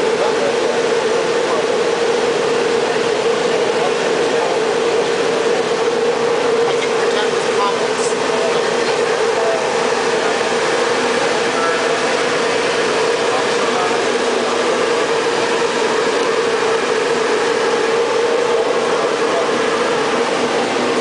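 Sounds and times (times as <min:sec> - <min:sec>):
droning hum: 0:00.0 - 0:21.0
rush of cooling air: 0:00.0 - 0:21.0.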